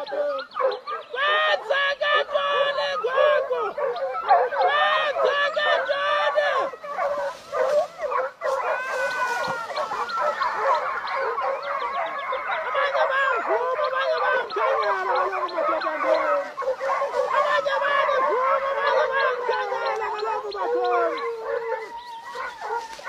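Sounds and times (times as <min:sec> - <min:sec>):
pack of dogs baying and howling: 0:00.0 - 0:23.0.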